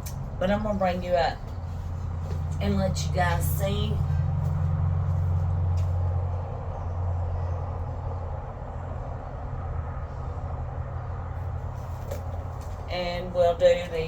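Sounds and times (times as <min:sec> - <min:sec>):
faint background rush: 0:00.0 - 0:14.0
steady low hum: 0:00.0 - 0:14.0.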